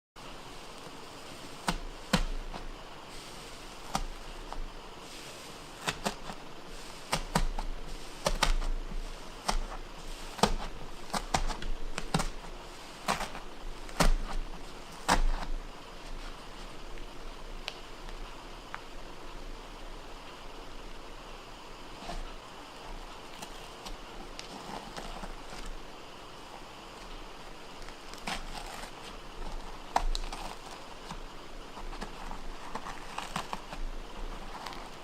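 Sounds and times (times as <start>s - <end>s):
faint steady hiss: 0.2s - 35.0s.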